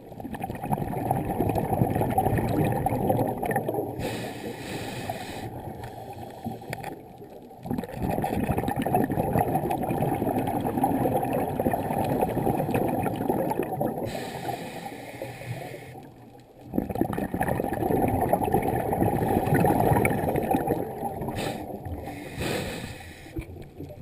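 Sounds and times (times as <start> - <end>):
muffled water gurgling and sloshing: 0.0 - 24.0.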